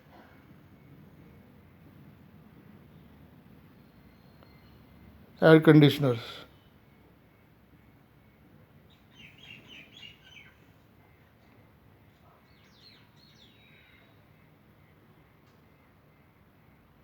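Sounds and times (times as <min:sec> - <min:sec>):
faint bird chirping: 0:00.2 - 0:05.2, 0:05.9 - 0:17.0.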